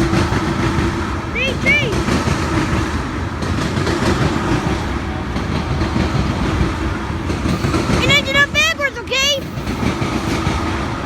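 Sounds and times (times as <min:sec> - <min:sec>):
train rumbling past: 0:00.0 - 0:11.0
wheels clattering on rails: 0:00.0 - 0:11.0.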